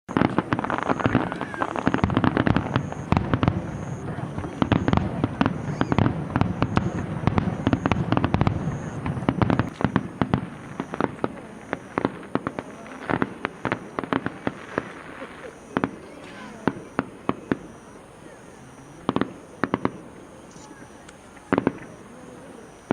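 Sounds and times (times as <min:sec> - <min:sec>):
fireworks bangs and booms: 0:00.1 - 0:22.9
fireworks crackling pops: 0:00.1 - 0:22.9.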